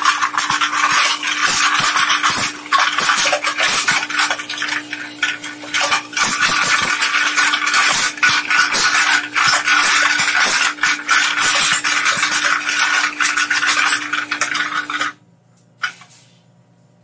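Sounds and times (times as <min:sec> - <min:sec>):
shredder crunching plastic: 0:00.0 - 0:15.2
steady machine hum: 0:00.0 - 0:17.0.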